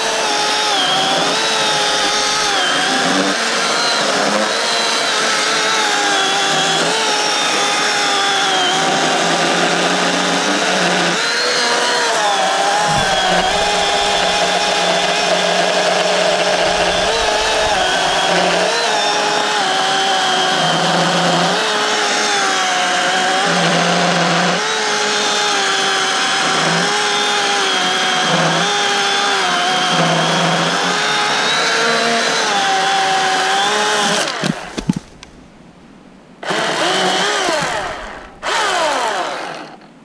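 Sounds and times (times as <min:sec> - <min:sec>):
electric chainsaw cutting log: 0:00.0 - 0:35.6, 0:36.4 - 0:39.9.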